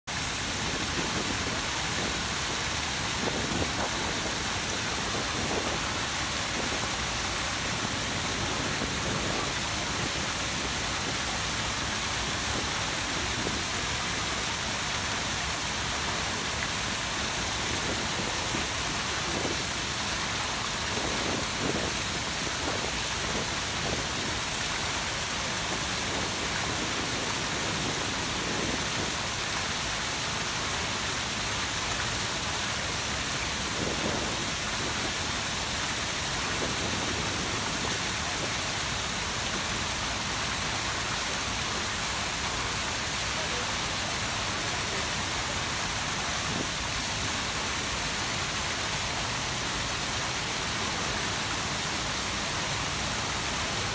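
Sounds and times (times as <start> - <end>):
fountain water splashing into pool: 0.0 - 53.9.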